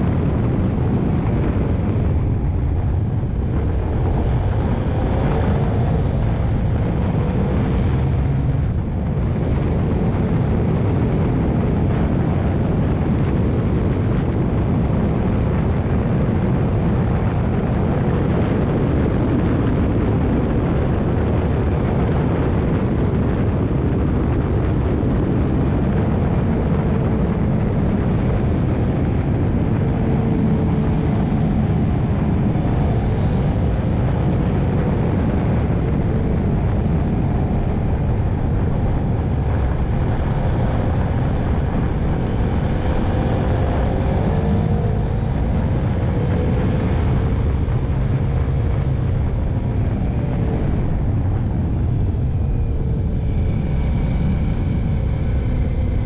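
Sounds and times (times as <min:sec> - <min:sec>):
wind noise over microphone: 0:00.0 - 0:56.0.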